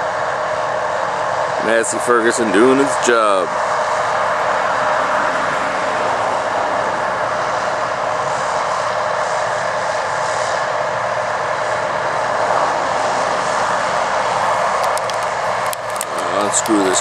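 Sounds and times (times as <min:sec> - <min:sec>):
combine harvester droning: 0:00.0 - 0:17.0
constant mechanical whine: 0:00.0 - 0:17.0.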